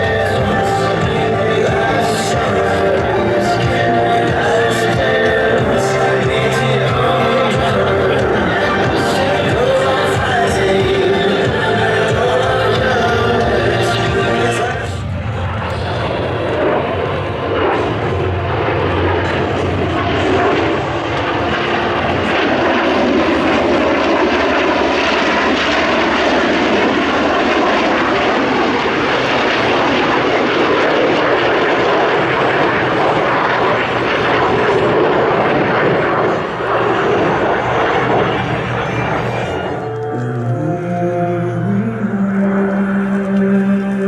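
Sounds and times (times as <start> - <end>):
airplane engine noise: 0.0 - 44.0.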